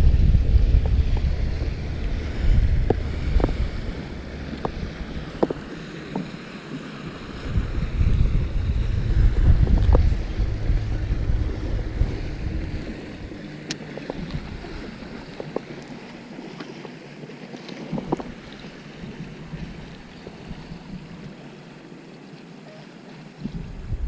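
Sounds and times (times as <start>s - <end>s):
wind buffeting microphone: 0.0s - 16.8s, 17.8s - 21.4s, 23.4s - 24.0s.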